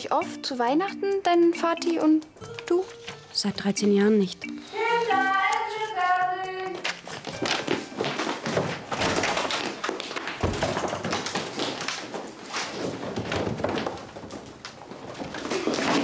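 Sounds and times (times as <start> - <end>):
footsteps on wooden floorboards: 1.8 - 16.0.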